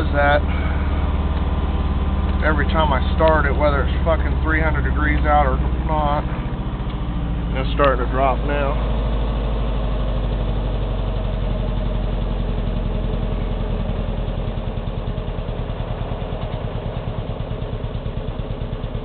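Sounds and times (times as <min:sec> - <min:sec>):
truck engine fast idle: 0:00.0 - 0:19.0.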